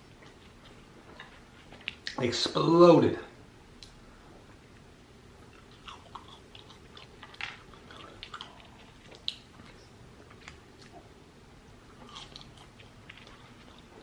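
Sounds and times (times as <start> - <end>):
person chewing food: 0.0 - 2.2, 3.8 - 14.0.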